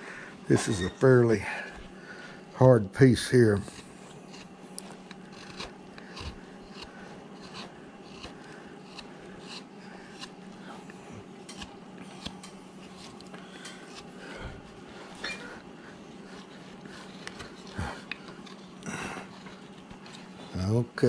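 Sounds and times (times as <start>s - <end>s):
knife carving hard wood: 3.1s - 20.6s.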